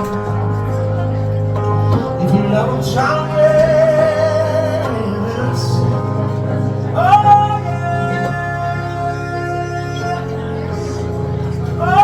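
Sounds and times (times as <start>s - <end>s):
sustained accompaniment chords: 0.0s - 12.0s
person singing with vibrato: 1.8s - 12.0s.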